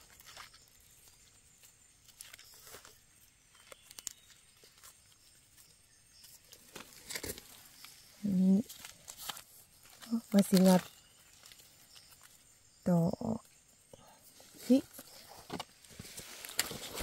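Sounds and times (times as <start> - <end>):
hands rustling dry leaves: 0.0 - 12.5, 14.4 - 17.0.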